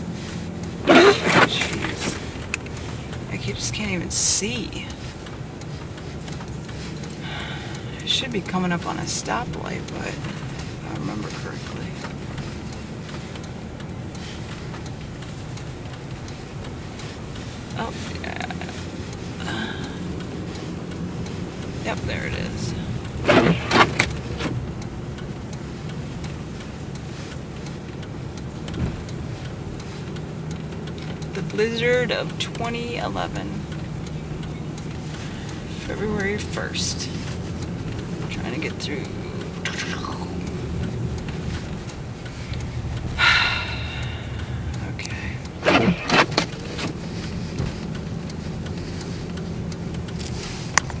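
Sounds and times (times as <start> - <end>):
engine and road rumble: 0.0 - 51.0
faint irregular ticking: 0.0 - 51.0.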